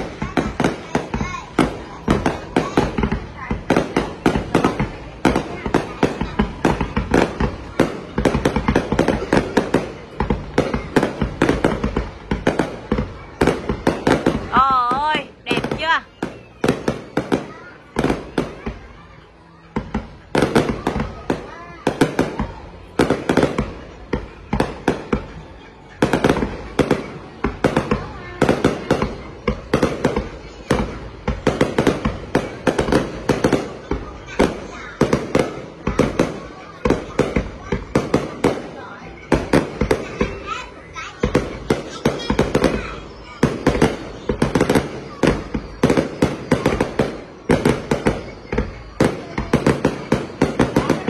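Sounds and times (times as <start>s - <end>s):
fireworks bursting with sharp bangs: 0.0s - 51.0s.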